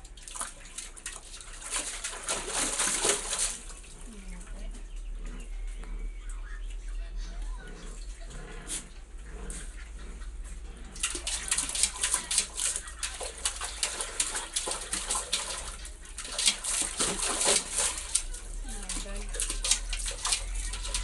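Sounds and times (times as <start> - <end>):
puppy splashing in water: 0.0 - 5.0, 7.5 - 21.0.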